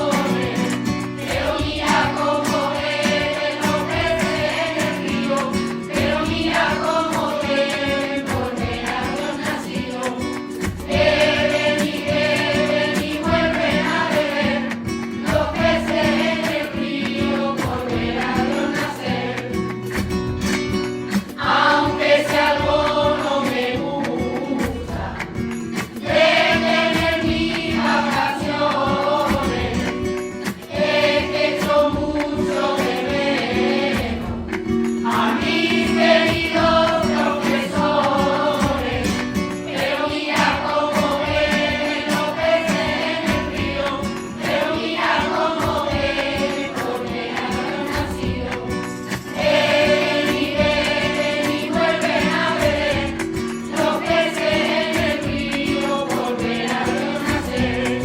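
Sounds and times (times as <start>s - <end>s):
children's choir singing: 0.0s - 20.1s, 21.0s - 58.0s
instrumental backing with beat: 0.0s - 58.0s.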